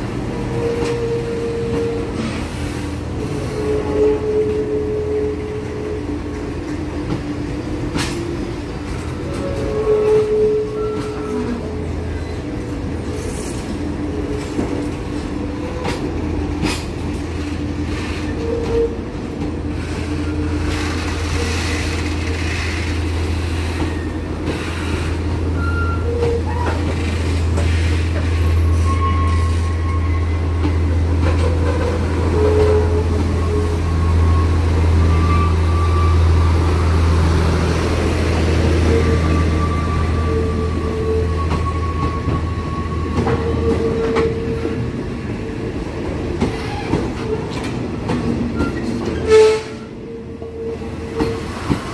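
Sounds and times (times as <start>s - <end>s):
train coaches rumbling: 0.0s - 51.9s.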